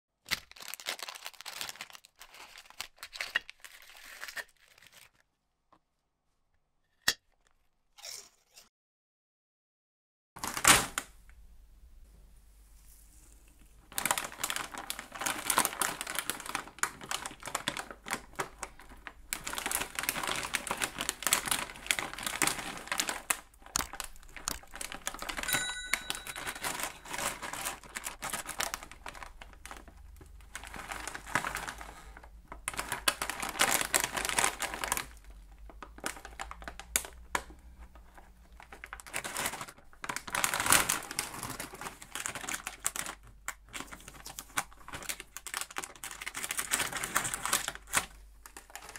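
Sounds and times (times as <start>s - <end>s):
plastic snack bag crinkling: 0.2s - 5.3s, 13.0s - 48.9s.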